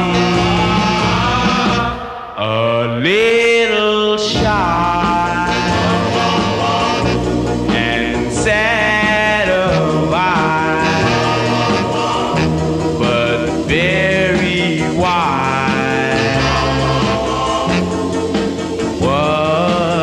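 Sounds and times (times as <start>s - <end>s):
band with steady bass line: 0.0s - 2.2s, 4.2s - 20.0s
vocal group singing in harmony: 0.0s - 20.0s.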